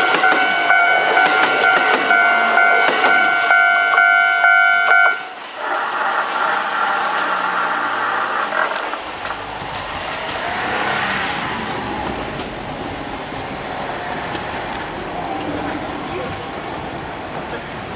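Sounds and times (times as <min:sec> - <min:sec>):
cars passing close by: 0:00.0 - 0:17.9.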